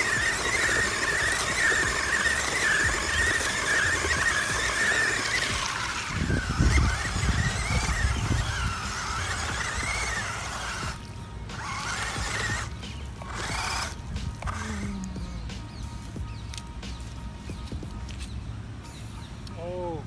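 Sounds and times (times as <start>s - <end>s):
electric motor whining: 0.0s - 16.7s.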